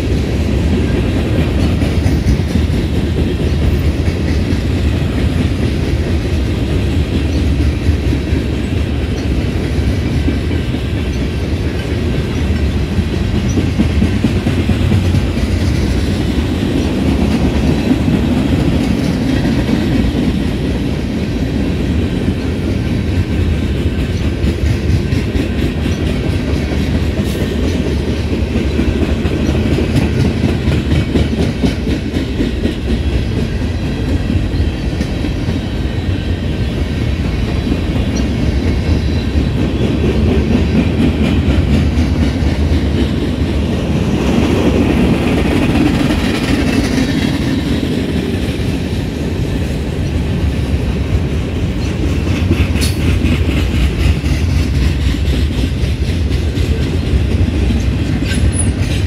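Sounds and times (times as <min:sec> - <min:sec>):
wheels clicking over rail joints: 0:00.0 - 0:59.0.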